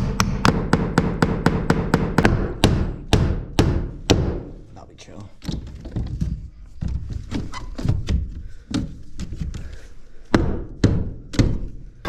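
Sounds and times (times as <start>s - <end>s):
knocks and thumps on wood: 0.0s - 4.5s, 5.4s - 9.7s, 10.3s - 11.8s.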